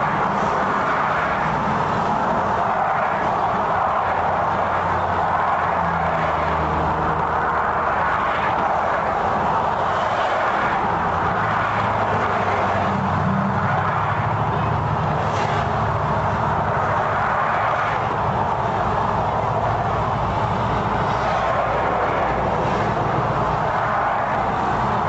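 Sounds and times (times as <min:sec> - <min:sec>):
traffic on road: 0:00.0 - 0:25.0.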